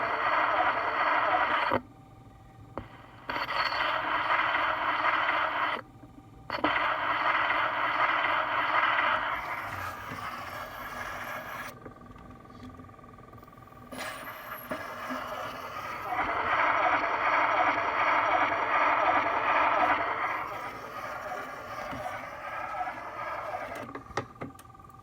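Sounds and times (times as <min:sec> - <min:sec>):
scratchy record surface noise: 0:00.0 - 0:01.8, 0:02.8 - 0:05.8, 0:06.5 - 0:11.8, 0:13.9 - 0:24.2.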